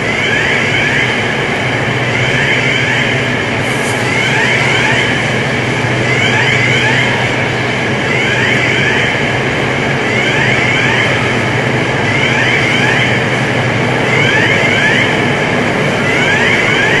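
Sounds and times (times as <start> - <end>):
fire alarm whoop tones: 0.0 - 17.0.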